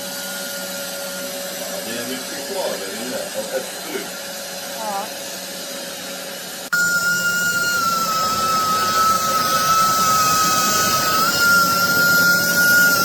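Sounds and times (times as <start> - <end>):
carpet cleaner suction motor: 0.0 - 13.0.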